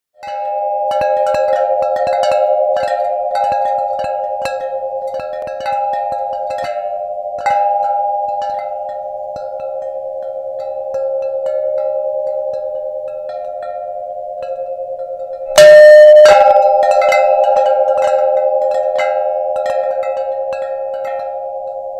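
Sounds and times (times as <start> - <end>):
chimes ringing: 0.2 - 21.9.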